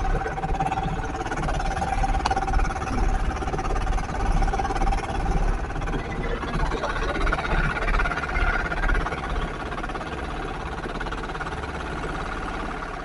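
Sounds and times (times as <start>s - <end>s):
boat motor running: 0.0s - 13.0s
water rushing along hull: 0.0s - 13.0s.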